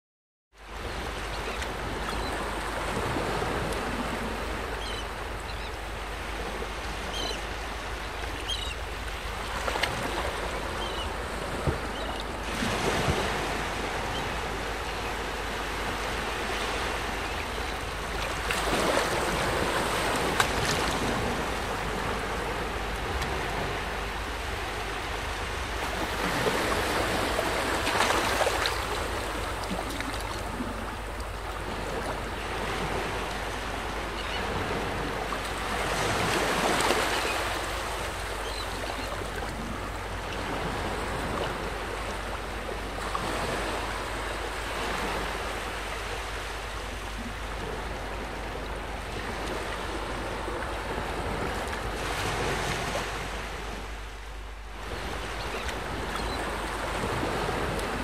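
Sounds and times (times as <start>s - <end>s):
small waves lapping on shore: 0.6s - 58.0s.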